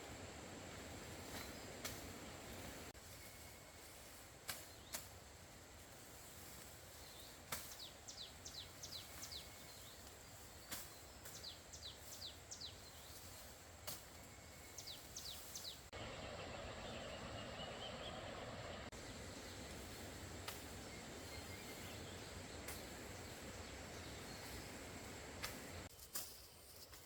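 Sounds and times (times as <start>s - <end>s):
steady high hiss: 0.0s - 27.0s.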